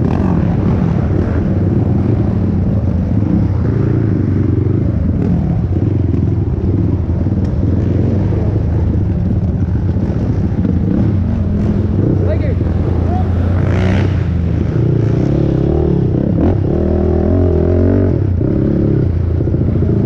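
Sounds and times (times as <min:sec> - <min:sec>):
quad engine running hard: 0:00.0 - 0:20.0.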